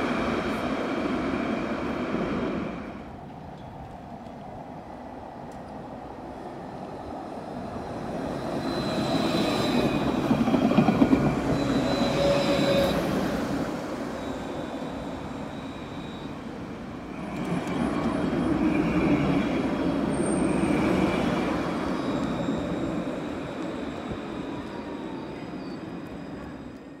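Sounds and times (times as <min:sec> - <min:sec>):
tram wheels rumbling on rail: 0:00.0 - 0:27.0.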